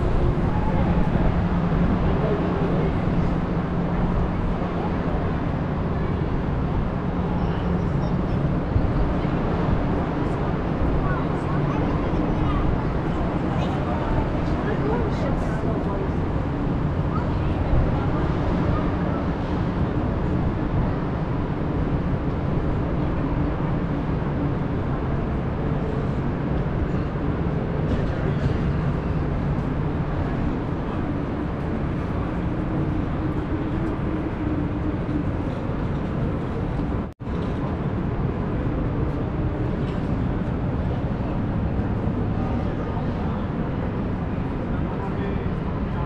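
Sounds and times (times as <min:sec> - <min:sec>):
low rumble of traffic: 0:00.0 - 0:46.0.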